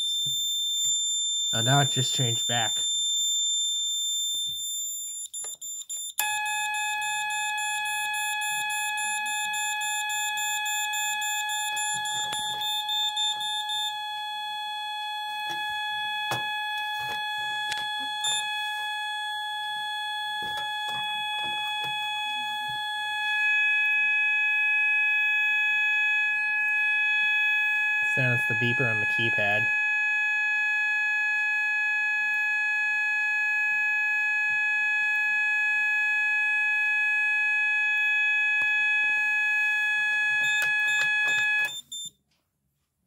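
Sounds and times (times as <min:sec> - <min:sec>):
lower multi-tone alarm: 0:00.0 - 0:42.2.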